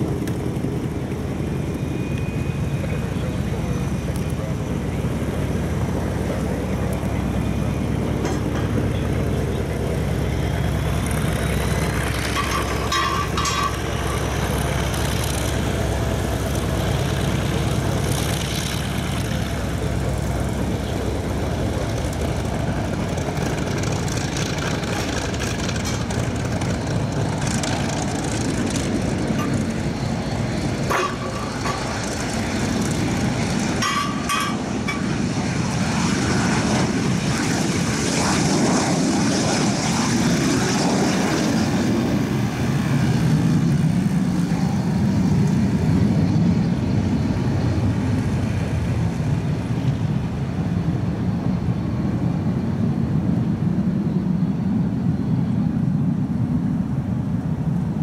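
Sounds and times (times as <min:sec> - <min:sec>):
jet taking off: 0:00.0 - 0:58.0.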